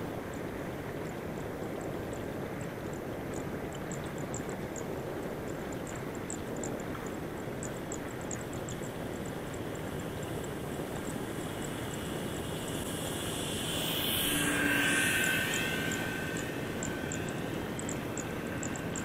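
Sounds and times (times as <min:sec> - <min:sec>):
model glider motor whine passing: 0:00.0 - 0:19.0.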